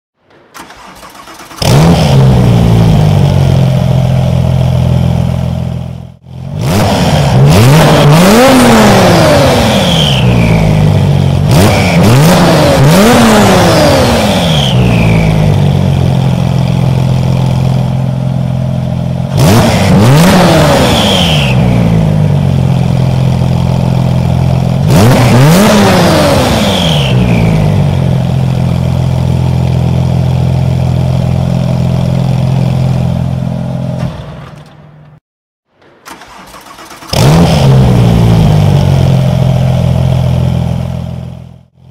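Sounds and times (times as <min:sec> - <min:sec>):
car engine idling and revving: 0:00.6 - 0:35.2, 0:36.1 - 0:41.9.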